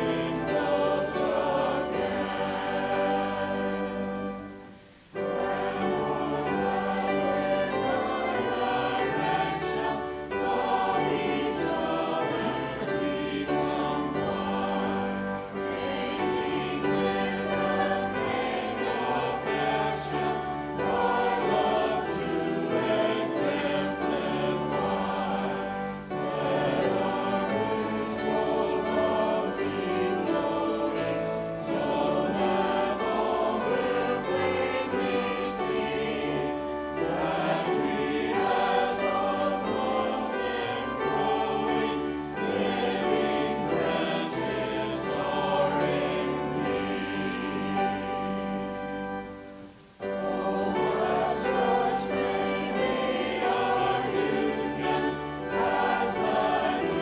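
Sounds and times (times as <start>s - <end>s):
choir and congregation singing hymn: 0.0s - 57.0s.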